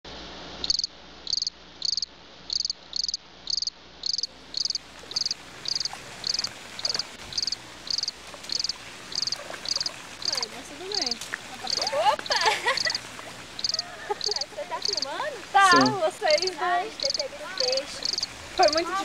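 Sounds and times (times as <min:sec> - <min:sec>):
insect chirping: 0:00.6 - 0:19.0.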